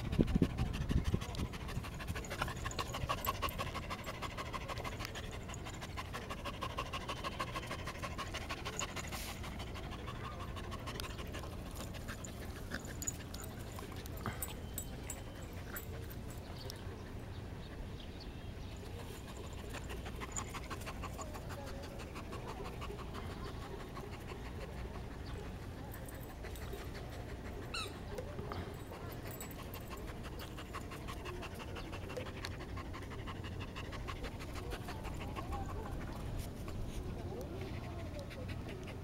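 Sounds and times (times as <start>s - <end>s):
dog panting: 0.0s - 18.0s, 18.6s - 39.0s.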